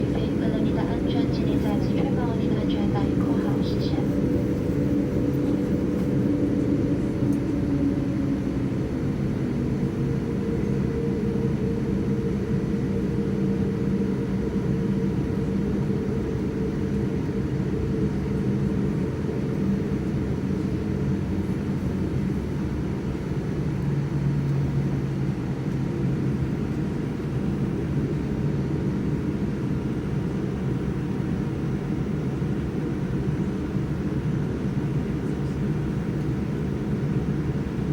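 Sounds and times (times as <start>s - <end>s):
jet engines droning: 0.0s - 37.9s.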